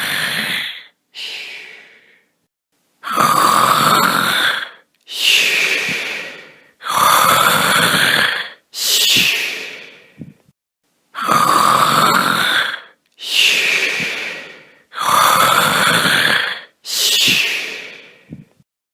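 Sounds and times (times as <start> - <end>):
person snoring: 0.0 - 2.2, 3.0 - 10.4, 11.2 - 18.7.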